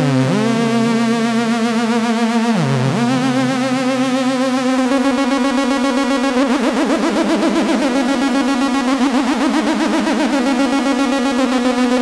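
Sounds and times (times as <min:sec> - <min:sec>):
synthesizer sustained note with delay: 0:00.0 - 0:12.0.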